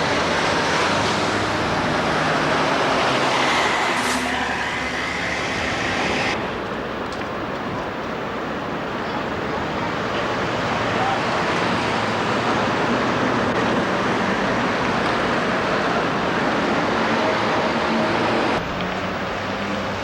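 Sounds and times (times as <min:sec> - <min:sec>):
rushing street traffic: 0:00.0 - 0:20.0.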